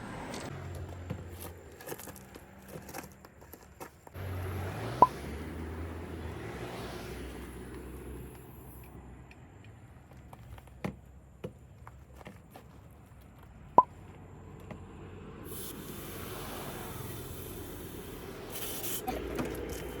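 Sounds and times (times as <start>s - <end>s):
truck engine rumble: 0.0s - 20.0s.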